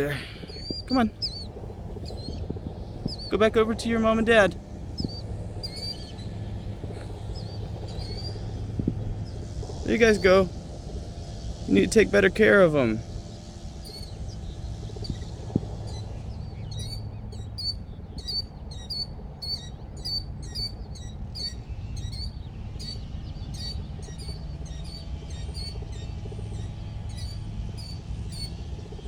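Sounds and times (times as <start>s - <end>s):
small bird chirping: 0.0s - 29.0s
steady low hum: 0.0s - 29.0s.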